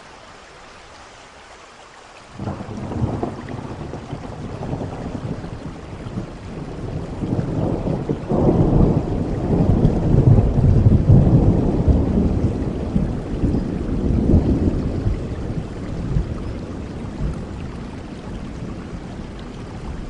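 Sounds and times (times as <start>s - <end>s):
steady rain: 0.0s - 20.0s
thunder rumbling: 2.4s - 20.0s.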